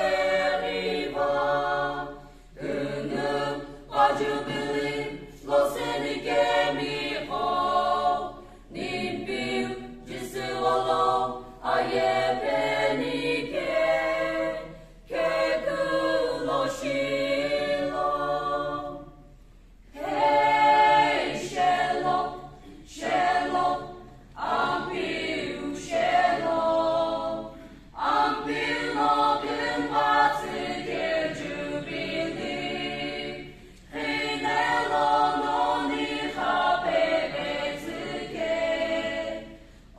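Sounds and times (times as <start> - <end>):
mixed choir singing unaccompanied: 0.0 - 39.9.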